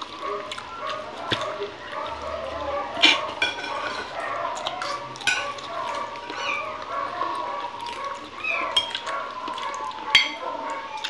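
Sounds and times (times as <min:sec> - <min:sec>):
man chewing food: 0:00.0 - 0:11.0.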